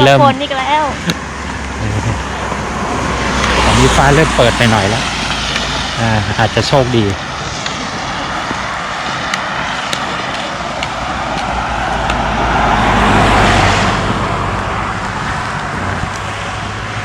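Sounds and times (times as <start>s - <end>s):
road vehicle passing: 0.0s - 17.0s
steady low rumble: 0.6s - 17.0s.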